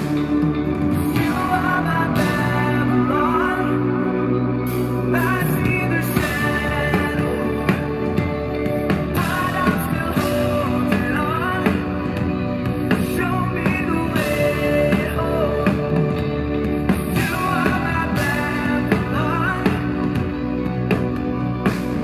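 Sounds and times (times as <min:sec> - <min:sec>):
live rock band playing: 0:00.0 - 0:22.0
man singing: 0:01.0 - 0:20.8.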